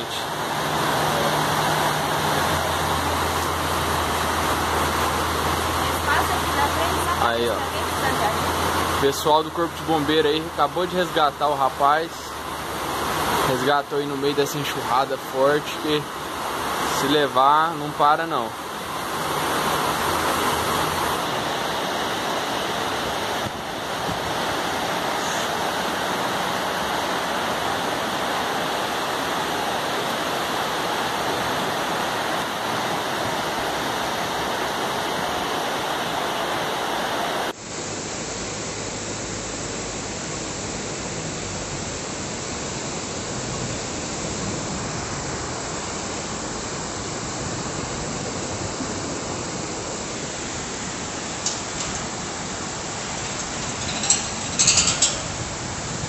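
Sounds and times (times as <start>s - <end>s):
floodwater torrent roaring: 0.0s - 56.0s.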